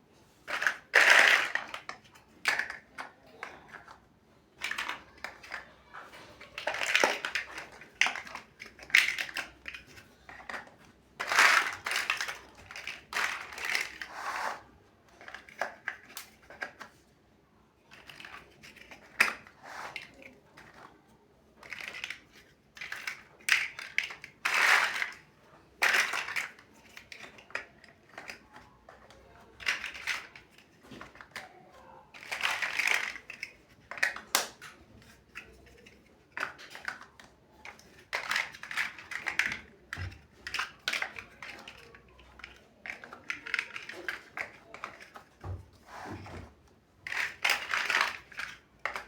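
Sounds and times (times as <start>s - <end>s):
plastic bricks clicking together: 0.5s - 5.7s, 6.4s - 17.0s, 17.9s - 20.9s, 21.6s - 45.6s, 47.0s - 49.0s.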